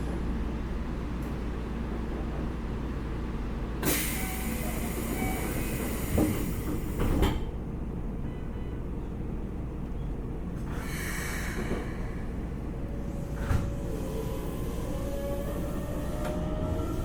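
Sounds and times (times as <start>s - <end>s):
electric train low rumble: 0.0s - 17.0s.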